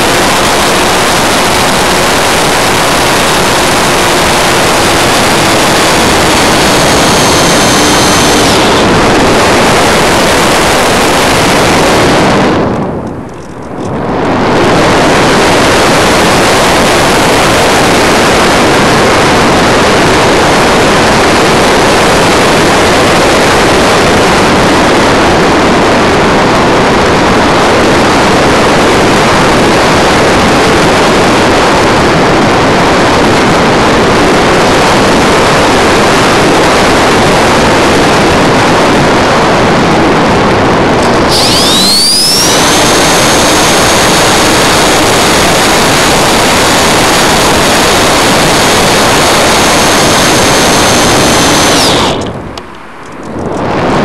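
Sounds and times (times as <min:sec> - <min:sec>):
air rushing over microphone: 0:00.0 - 0:54.0.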